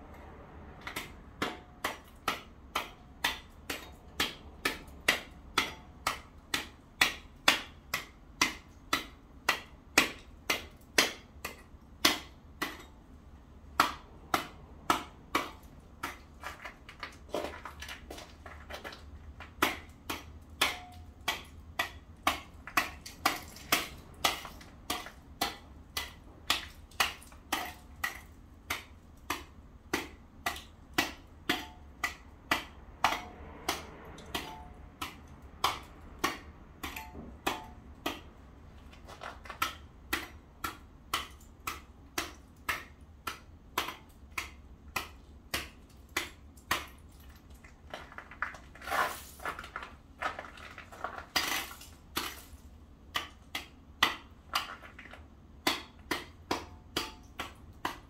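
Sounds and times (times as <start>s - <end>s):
metal tool chipping ice: 0.8s - 13.1s, 13.7s - 58.0s.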